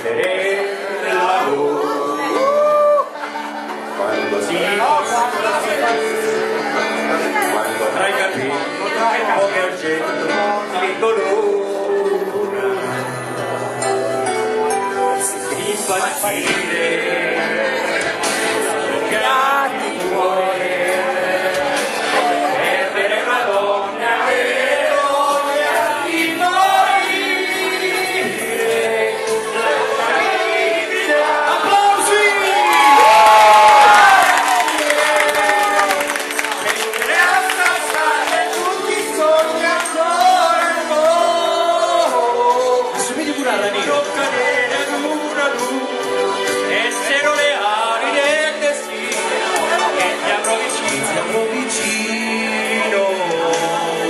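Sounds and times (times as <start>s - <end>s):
music with singing: 0.0s - 54.0s.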